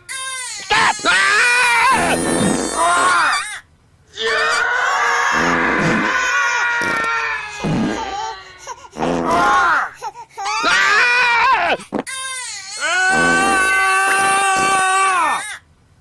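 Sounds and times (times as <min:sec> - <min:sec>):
baby crying: 0:00.0 - 0:03.6, 0:04.2 - 0:15.6.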